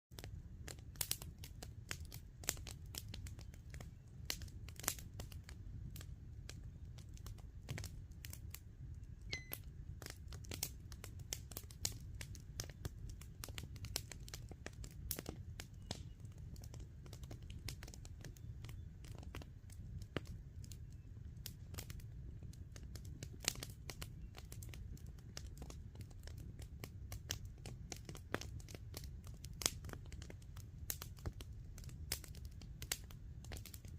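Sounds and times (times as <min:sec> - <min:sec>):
campfire crackling and popping: 0:00.1 - 0:33.9.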